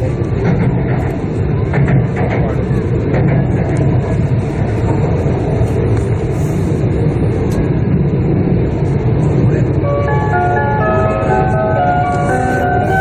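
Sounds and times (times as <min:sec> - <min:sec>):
train rumble inside passenger car: 0:00.0 - 0:13.0.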